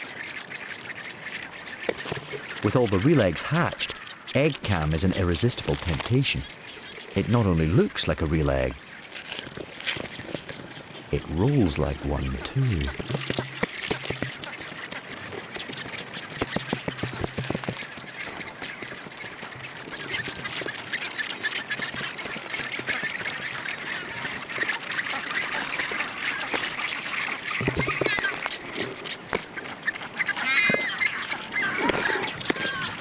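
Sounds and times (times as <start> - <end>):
penguin colony calling: 0.0 - 33.0.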